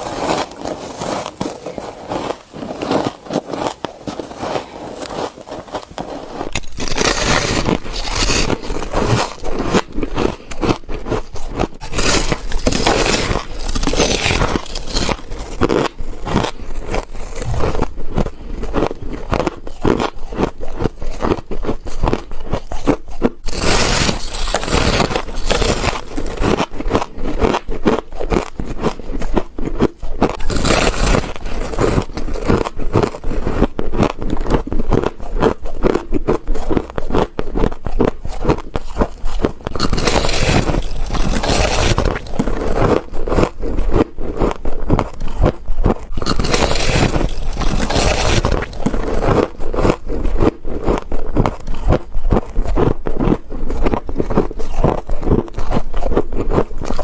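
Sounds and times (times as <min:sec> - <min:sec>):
frost being chewed: 0:00.0 - 0:57.0.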